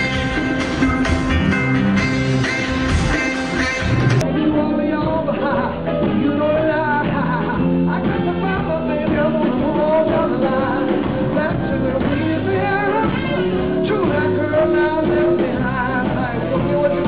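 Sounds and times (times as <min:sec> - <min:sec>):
man singing with rock band: 0:02.4 - 0:17.0.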